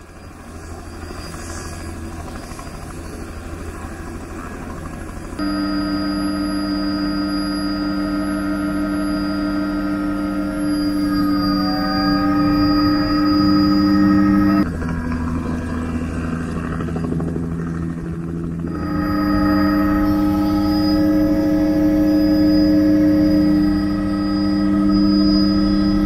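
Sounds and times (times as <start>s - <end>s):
helicopter rumble from outside: 0.0s - 26.0s
helicopter turbine whine: 0.0s - 26.0s.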